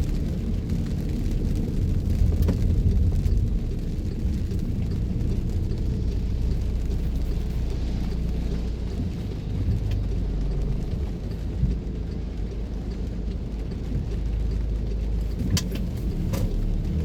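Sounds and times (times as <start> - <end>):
car road and engine rumble: 0.0 - 17.0
faint rain ticking: 0.0 - 17.0.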